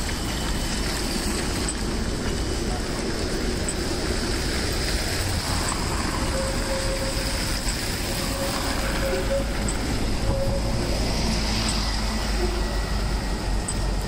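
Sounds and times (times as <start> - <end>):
buses and cars passing: 0.0 - 14.0
tram moving: 0.0 - 14.0.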